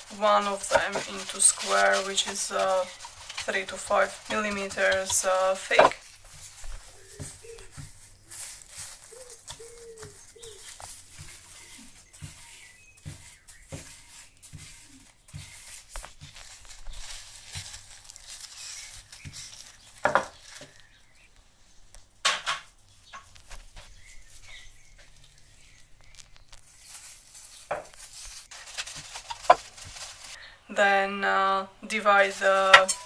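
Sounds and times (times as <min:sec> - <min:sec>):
plastic gloves crinkling: 0:00.0 - 0:30.6, 0:31.9 - 0:33.0.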